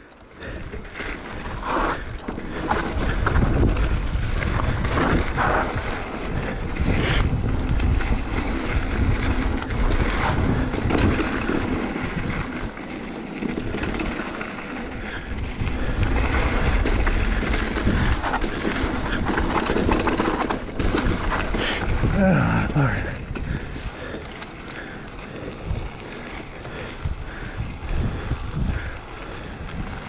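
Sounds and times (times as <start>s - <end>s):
bike clacking over bumps: 0.0s - 30.0s
bike tyres rolling on dirt: 0.0s - 30.0s
wind buffeting microphone: 0.4s - 30.0s.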